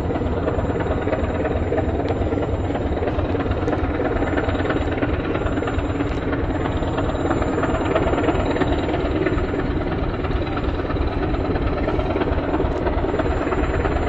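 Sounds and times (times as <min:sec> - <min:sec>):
diesel locomotive passing: 0:00.0 - 0:14.0.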